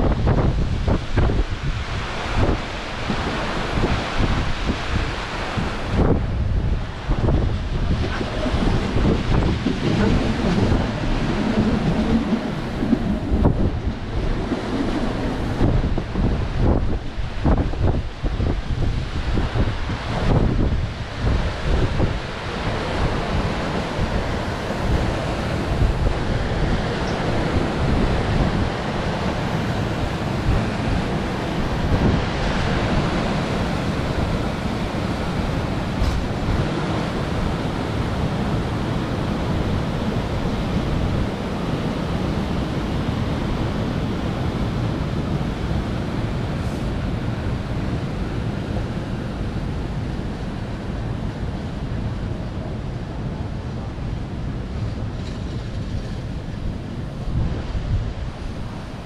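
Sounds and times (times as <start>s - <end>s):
train carriage rumbling on track: 0.0s - 59.0s
wind buffeting microphone: 0.0s - 59.0s.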